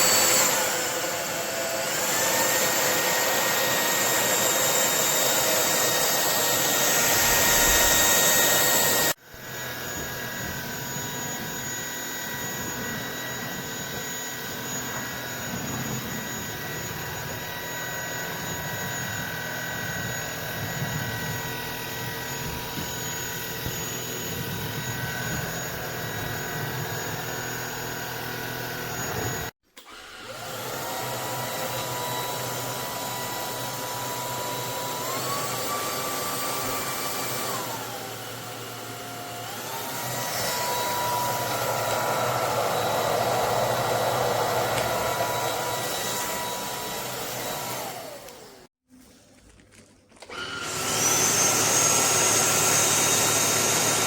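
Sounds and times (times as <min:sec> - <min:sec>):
vacuum cleaner motor whine: 0:00.0 - 0:48.8, 0:50.2 - 0:54.0.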